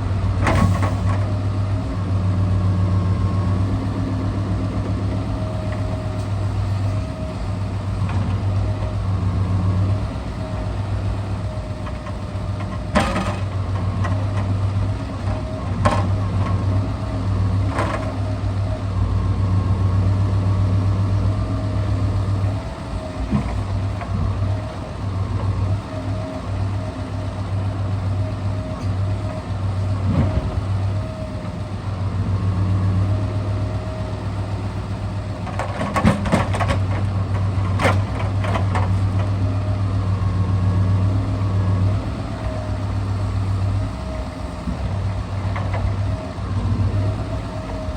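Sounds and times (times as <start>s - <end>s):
truck engine droning: 0.0s - 47.9s.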